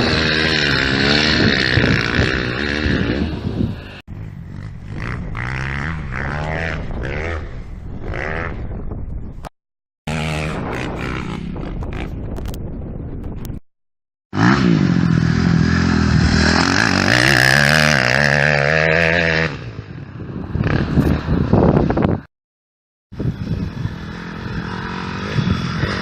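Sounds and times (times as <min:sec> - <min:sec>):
motocross bike engines revving: 0:00.0 - 0:08.7, 0:10.1 - 0:12.2, 0:14.4 - 0:22.3, 0:23.2 - 0:26.0.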